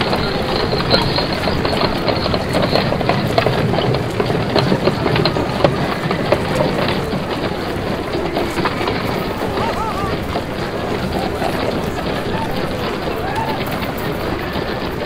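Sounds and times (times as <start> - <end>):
wheels clattering on tram rails: 0.0 - 15.0.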